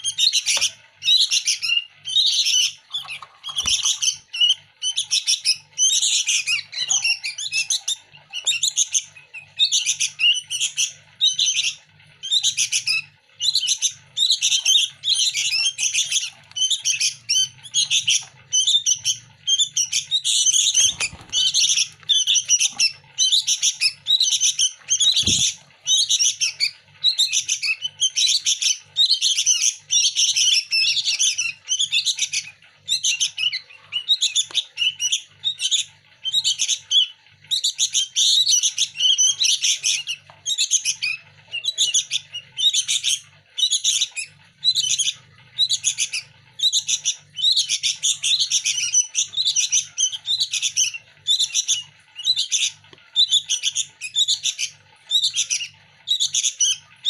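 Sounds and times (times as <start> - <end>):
young birds begging calls: 0.0 - 57.0.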